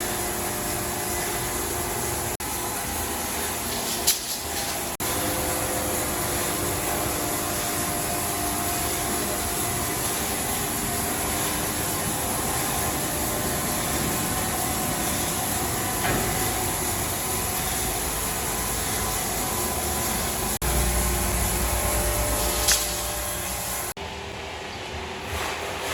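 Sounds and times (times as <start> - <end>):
sawmill machinery running: 0.0 - 24.5.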